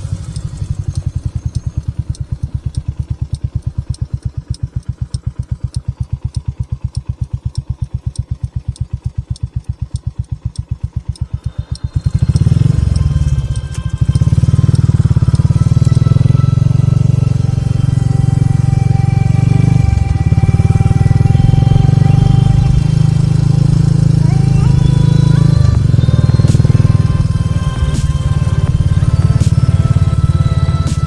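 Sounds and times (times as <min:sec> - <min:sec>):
light regular ticking: 0:00.0 - 0:31.0
motorcycle engine idling: 0:00.0 - 0:31.0.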